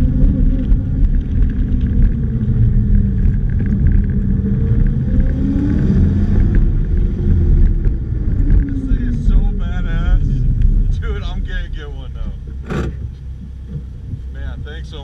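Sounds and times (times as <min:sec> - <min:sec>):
engine accelerating: 0:00.0 - 0:15.0
wind rumble on microphone: 0:00.0 - 0:15.0.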